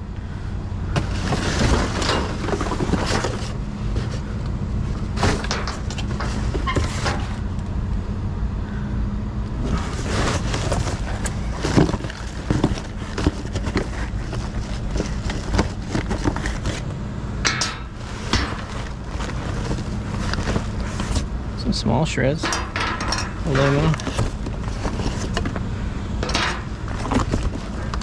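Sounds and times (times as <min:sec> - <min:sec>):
steady low hum: 0:00.0 - 0:28.0
debris clinking and rustling: 0:00.9 - 0:04.2, 0:05.0 - 0:07.5, 0:09.6 - 0:21.3, 0:22.4 - 0:25.6, 0:26.2 - 0:28.0.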